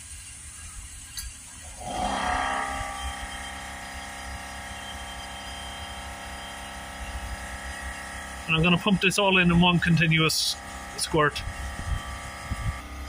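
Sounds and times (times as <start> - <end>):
electric air compressor running: 0.0 - 13.0.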